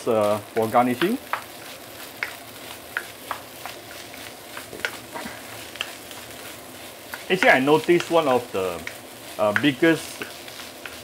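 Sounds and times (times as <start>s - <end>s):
rice sizzling in a wok: 0.0s - 11.0s
spatula scraping and tapping pan: 0.5s - 11.0s.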